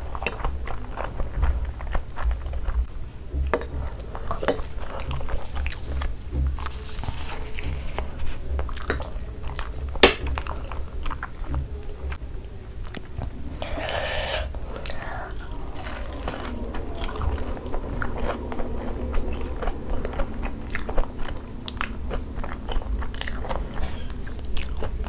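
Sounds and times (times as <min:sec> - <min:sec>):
chewing and slurping noodles: 0:00.0 - 0:25.0.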